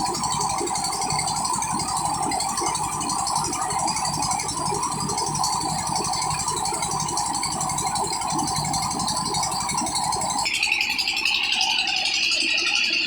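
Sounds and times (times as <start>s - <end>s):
diesel engine rattling: 0.0s - 10.5s.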